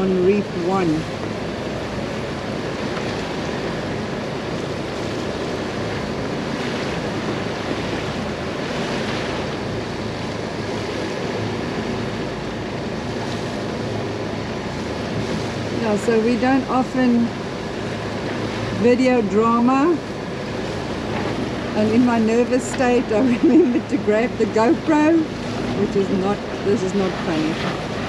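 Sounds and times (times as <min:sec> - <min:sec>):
choppy sea washing: 0:00.0 - 0:28.0
wind buffeting microphone: 0:00.0 - 0:28.0.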